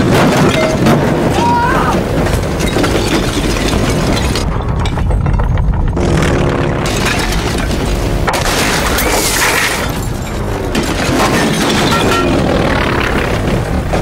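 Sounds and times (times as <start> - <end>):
shattering and breaking debris: 0.0 - 14.0.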